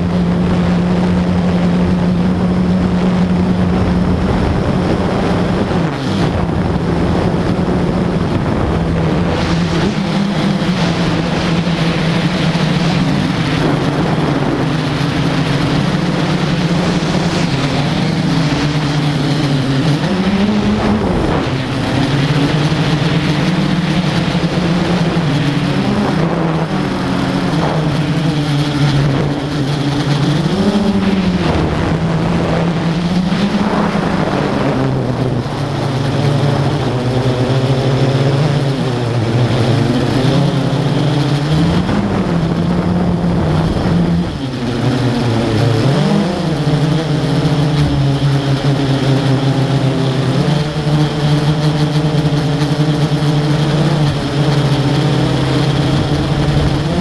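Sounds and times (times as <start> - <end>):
drone motors and propellers humming: 0.0 - 57.0.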